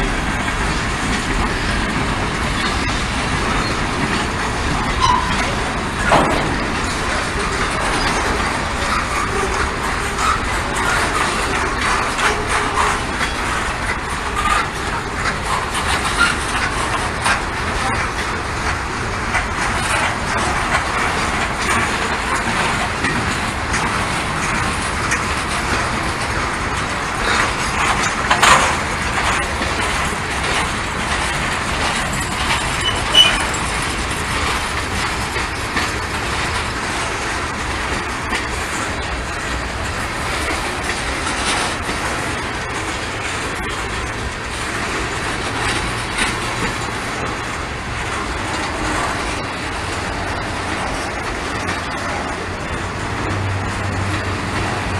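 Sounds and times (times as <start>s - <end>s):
train wheels clattering over rail: 0.0s - 54.9s.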